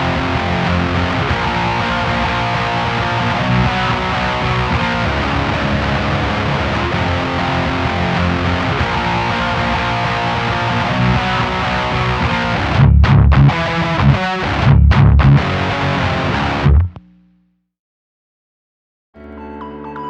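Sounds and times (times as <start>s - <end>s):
heavy muted guitar chugs: 0.0s - 17.3s
distorted electric guitar chords: 0.0s - 17.5s.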